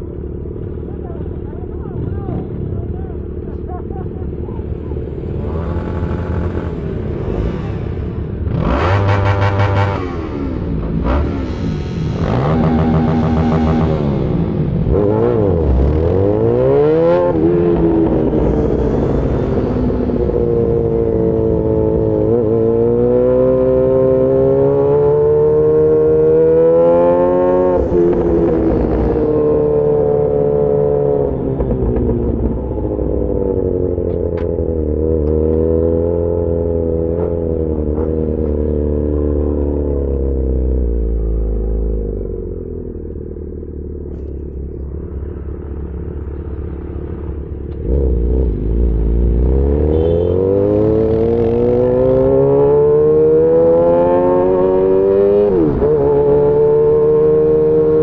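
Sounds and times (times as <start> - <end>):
motorcycle engine revving: 4.2 - 58.0.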